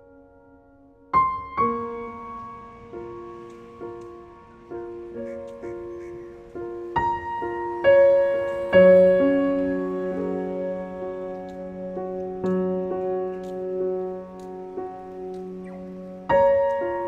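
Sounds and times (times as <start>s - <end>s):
slow piano melody with chords: 0.0s - 17.0s.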